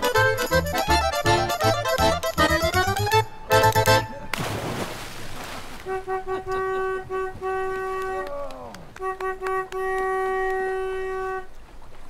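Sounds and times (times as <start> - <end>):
wind instrument notes: 0.0 - 4.4, 5.8 - 11.7.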